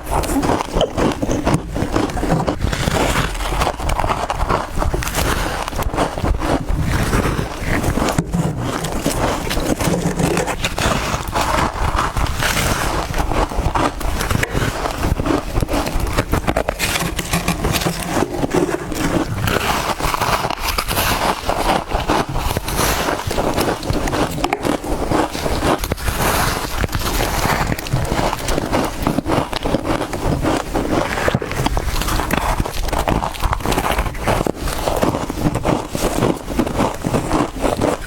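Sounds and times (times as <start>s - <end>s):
chewing crunchy frost: 0.0s - 38.0s.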